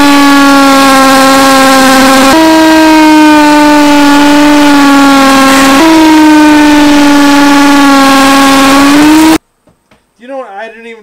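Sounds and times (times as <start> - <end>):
drill motor whine: 0.0 - 9.4.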